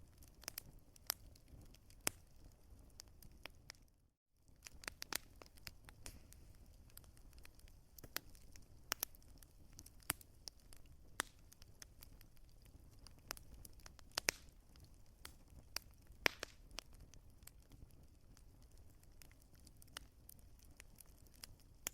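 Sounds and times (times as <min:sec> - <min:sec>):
wood fire crackling and popping: 0:00.0 - 0:21.9.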